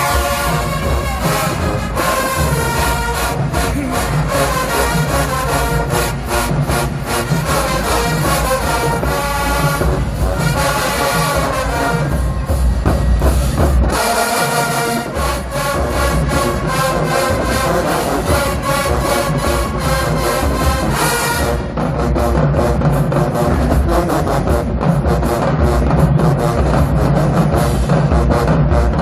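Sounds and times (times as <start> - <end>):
brass section playing: 0.0 - 29.0
drumline playing: 0.0 - 29.0.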